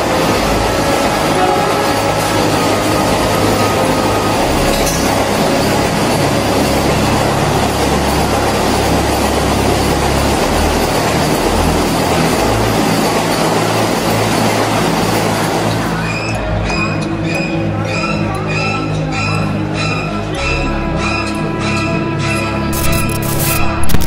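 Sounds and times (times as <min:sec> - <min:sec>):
train rumbling past on rails: 0:00.0 - 0:22.7.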